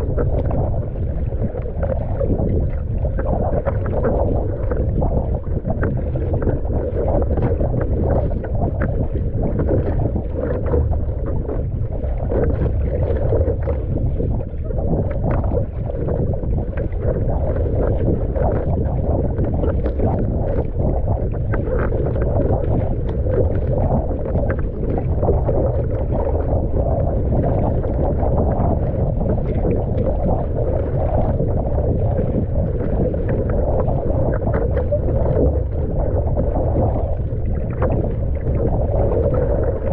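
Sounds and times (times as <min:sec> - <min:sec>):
water slapping against hull: 0:00.0 - 0:39.9
wind buffeting microphone: 0:00.0 - 0:39.9.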